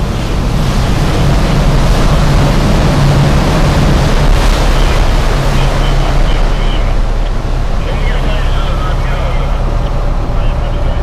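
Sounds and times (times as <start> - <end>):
boat engine humming: 0.0 - 11.0
rushing water: 0.0 - 11.0
wind noise: 0.0 - 11.0.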